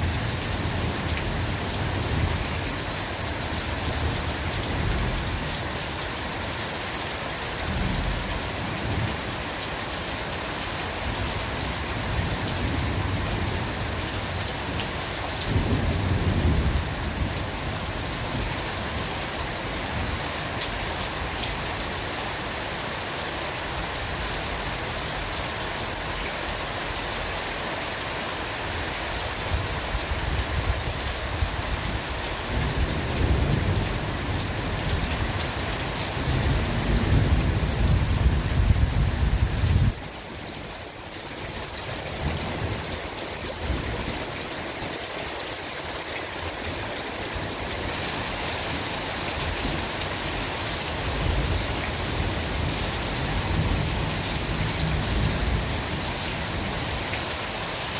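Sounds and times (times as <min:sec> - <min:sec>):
heavy rain in forest: 0:00.0 - 0:57.9.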